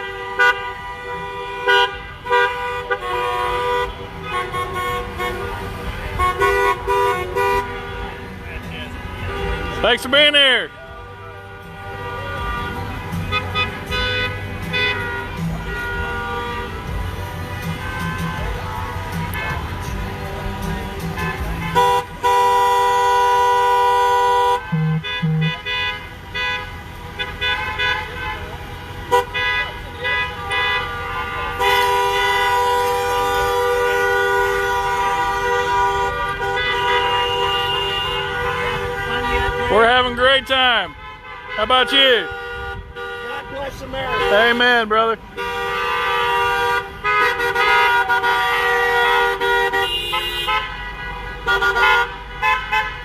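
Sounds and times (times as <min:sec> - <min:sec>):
car horns honking: 0:00.0 - 0:53.0
traffic rumble: 0:00.0 - 0:53.0.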